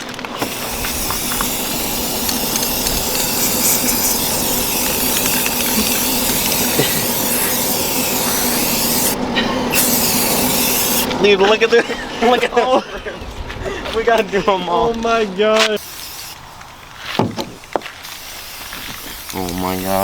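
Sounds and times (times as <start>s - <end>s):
spraying hiss: 0.0s - 13.1s, 15.4s - 20.0s.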